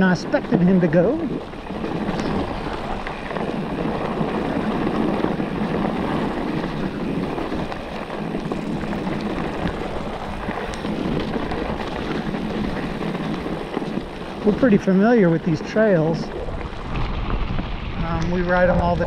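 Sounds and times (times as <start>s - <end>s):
bike tyre and wind noise: 0.0s - 19.0s.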